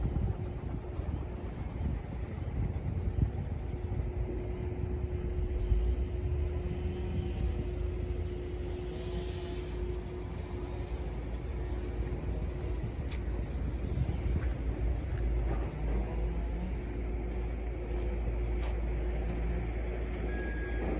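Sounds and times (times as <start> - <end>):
diesel engine rumble: 0.0 - 20.9
thin steady whine: 0.0 - 20.9.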